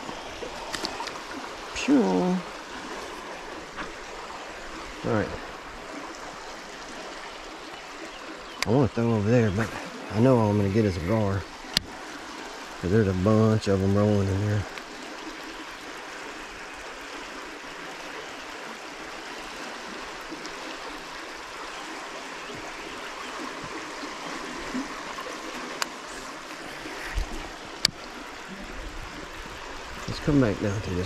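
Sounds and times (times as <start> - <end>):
flowing river water: 0.0 - 31.0.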